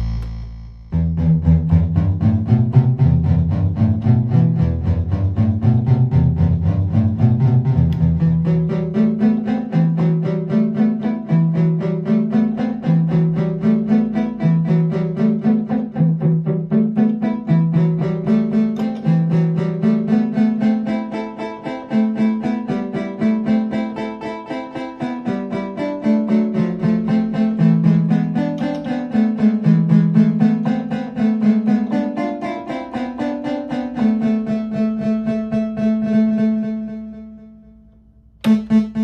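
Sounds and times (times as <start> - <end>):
analog synthesizer melody: 0.0 - 39.0.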